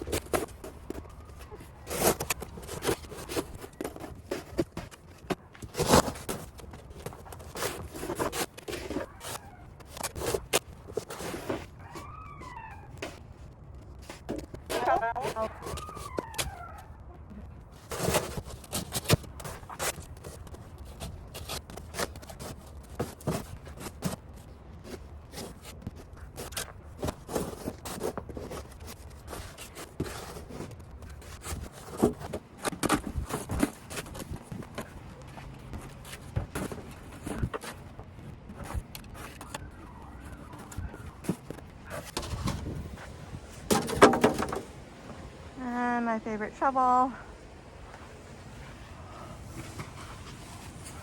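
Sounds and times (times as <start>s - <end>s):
crunches and scrapes in snow: 0.0s - 12.1s, 14.0s - 16.0s, 17.7s - 43.7s, 47.8s - 51.0s.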